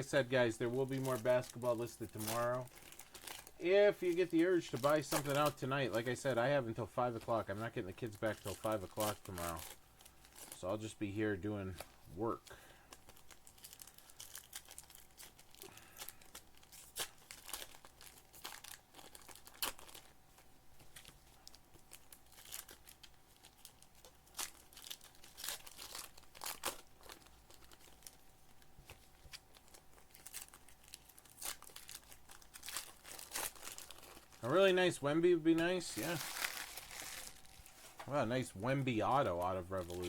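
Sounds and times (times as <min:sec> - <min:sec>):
card pack wrappers crinkling: 0:00.0 - 0:40.0.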